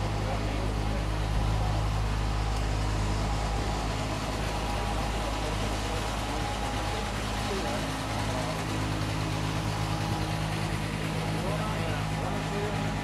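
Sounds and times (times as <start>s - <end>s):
faint murmur of people: 0.0s - 13.0s
low mechanical hum: 0.0s - 13.0s.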